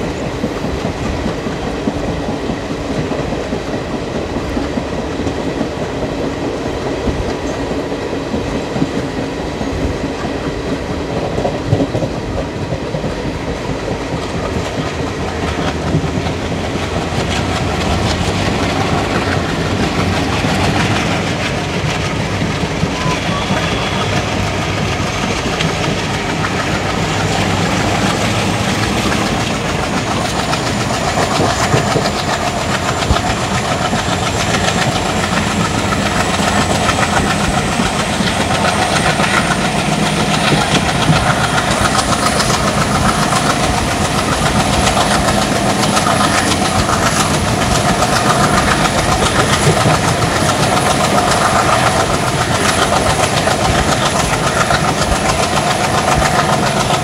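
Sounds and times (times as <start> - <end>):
clickety-clack of wheels: 0.0 - 57.0
train coach rumble and rattle: 0.0 - 57.0.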